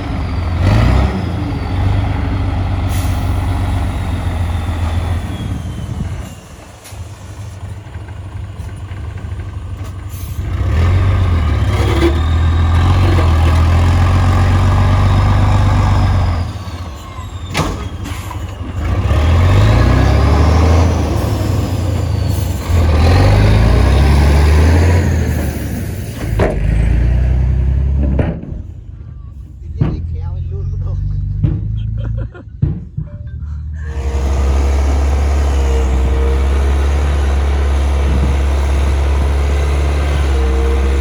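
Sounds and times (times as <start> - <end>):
heavy diesel machine engine: 0.0 - 32.3, 33.2 - 41.0.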